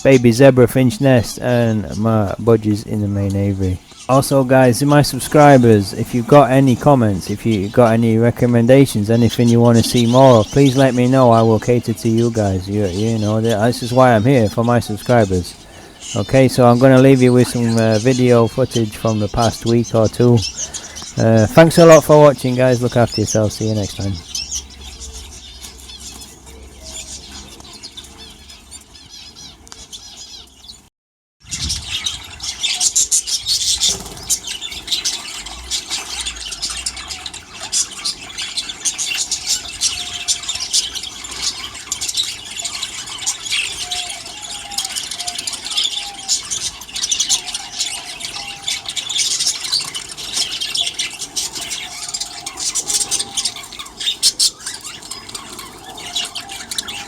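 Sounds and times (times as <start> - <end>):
birds chattering and squawking: 0.0 - 57.0.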